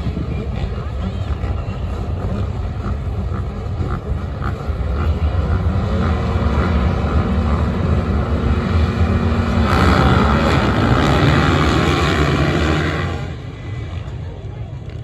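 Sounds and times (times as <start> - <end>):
motocross bikes revving: 0.0 - 14.2.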